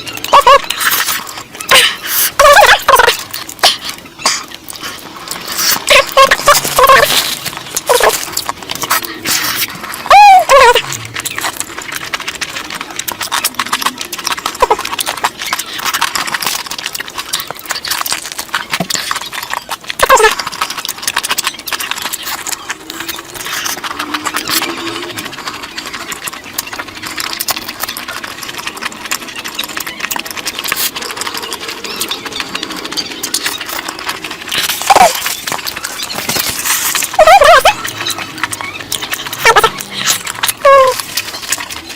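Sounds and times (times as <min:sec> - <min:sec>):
wet chewing and lip-smacking: 0:00.0 - 0:41.9.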